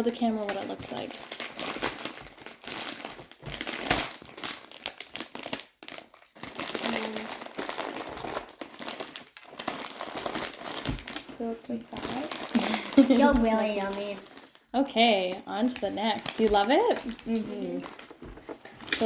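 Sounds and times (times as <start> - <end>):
chip bag crinkling: 0.0 - 19.0.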